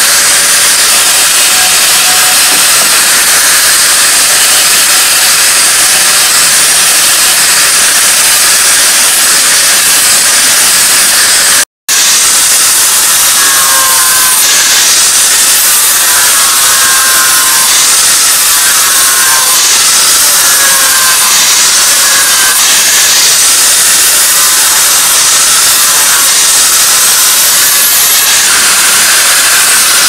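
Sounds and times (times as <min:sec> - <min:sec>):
angle grinder grinding steel: 0:00.0 - 0:30.0
small sanding grinder whining: 0:00.0 - 0:30.0.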